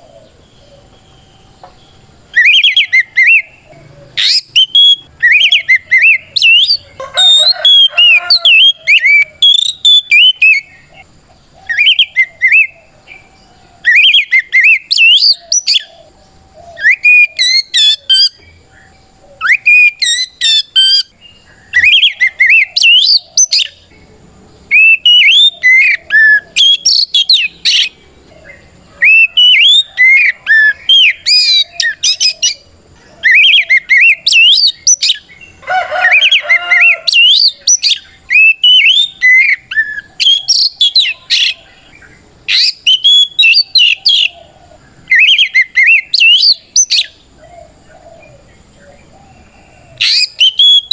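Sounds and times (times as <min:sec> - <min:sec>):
bird whistling song: 0:00.0 - 0:24.0, 0:24.6 - 0:50.9.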